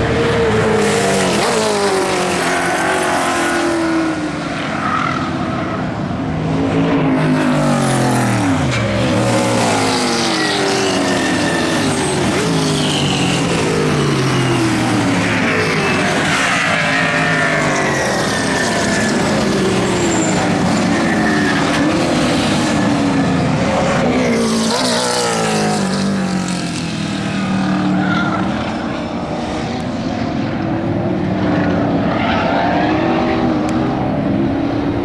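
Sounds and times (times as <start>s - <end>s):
racing car engines revving: 0.0s - 35.0s.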